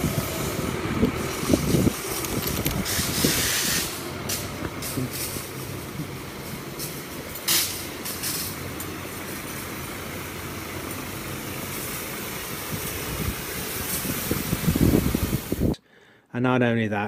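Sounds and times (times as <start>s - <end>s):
fire hose spraying water: 0.0s - 15.8s.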